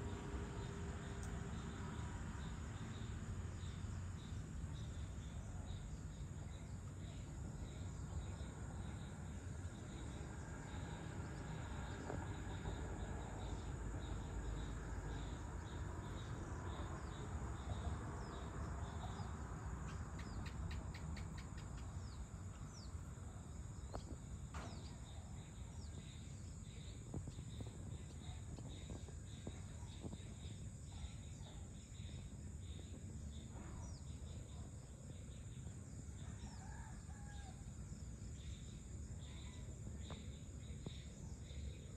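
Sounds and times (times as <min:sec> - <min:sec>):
crickets and insects chorus: 0:00.0 - 0:41.9.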